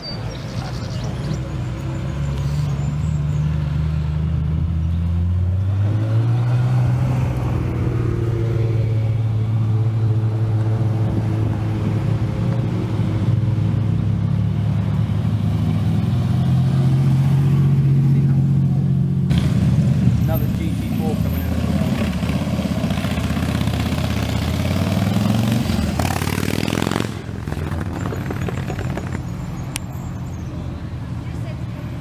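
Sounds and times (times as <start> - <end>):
sports car engines: 0.0 - 32.0.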